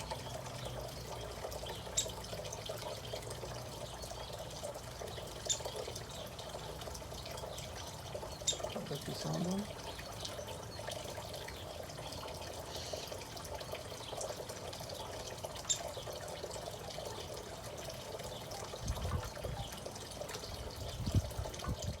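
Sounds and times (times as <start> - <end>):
pond water trickling: 0.0 - 22.0
small water drips: 0.0 - 22.0.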